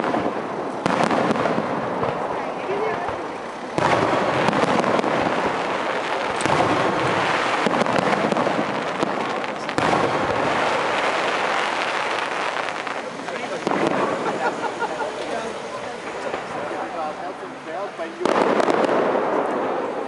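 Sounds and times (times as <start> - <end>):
fireworks bursting with crackling: 0.0 - 20.0.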